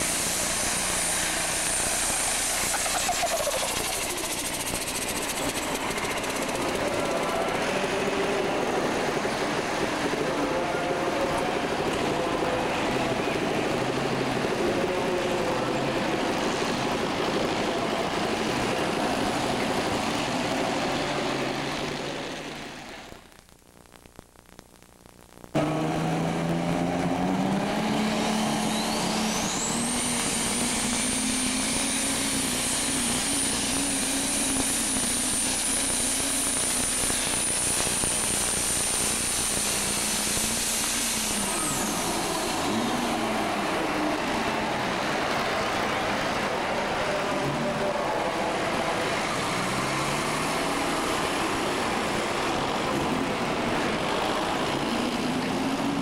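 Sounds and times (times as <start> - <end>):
diesel tractor engine under load: 0.0 - 23.3, 25.5 - 56.0.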